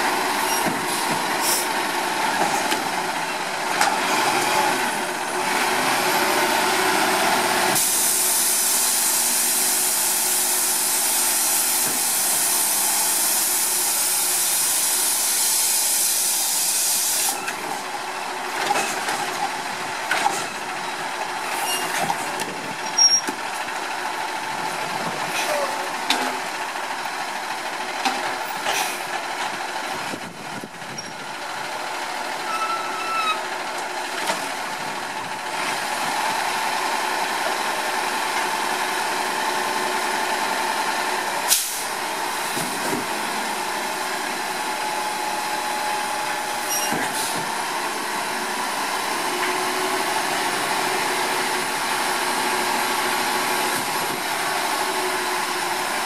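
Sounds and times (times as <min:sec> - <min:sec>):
garbage truck diesel engine whine: 0:00.0 - 0:56.0.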